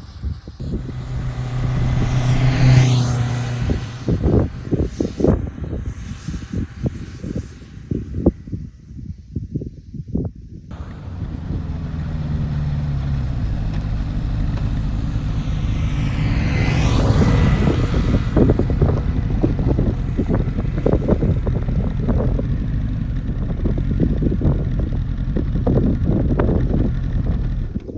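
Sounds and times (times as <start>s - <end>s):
wind noise on microphone: 0.0s - 27.9s
motorcycle engine running: 0.6s - 6.3s, 10.7s - 27.9s.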